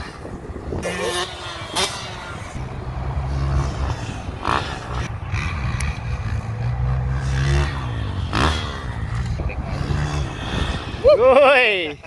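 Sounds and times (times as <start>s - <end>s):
dirt bike engine running: 0.8s - 11.0s.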